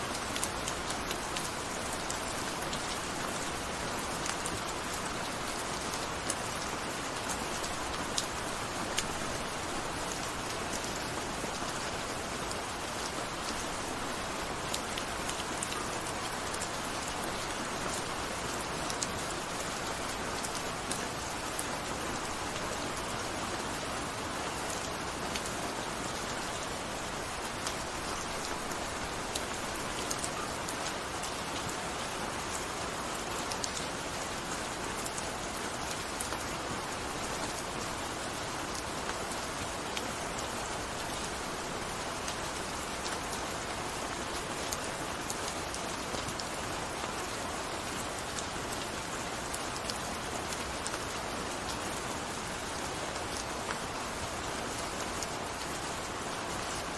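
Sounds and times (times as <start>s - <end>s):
gentle rain falling: 0.0s - 56.9s.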